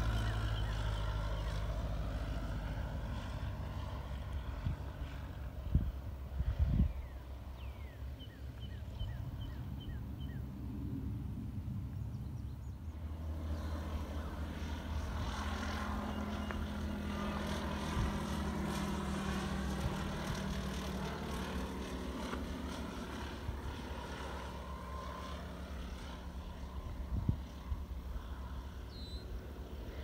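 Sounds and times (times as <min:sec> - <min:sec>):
propeller plane droning overhead: 0:00.0 - 0:30.0.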